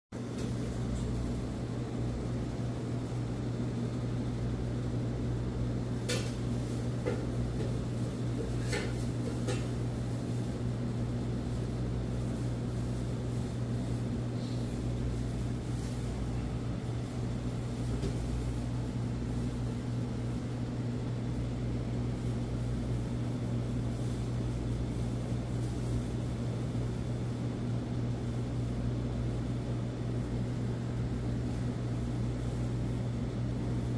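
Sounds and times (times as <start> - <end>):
kitchen equipment humming: 0.2 - 33.9.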